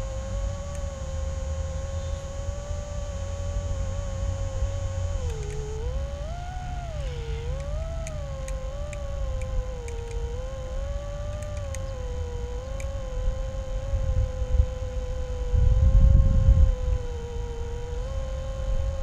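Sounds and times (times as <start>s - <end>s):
drone propellers whining: 0.0s - 19.0s
wind rumbling on microphone: 0.0s - 19.0s.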